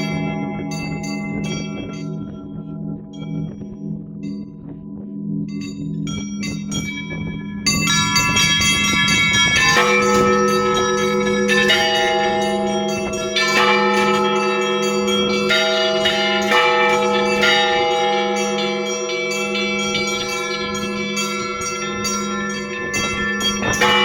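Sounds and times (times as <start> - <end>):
church bells ringing: 0.0 - 3.0, 6.4 - 24.0
deep steady hum: 0.0 - 24.0.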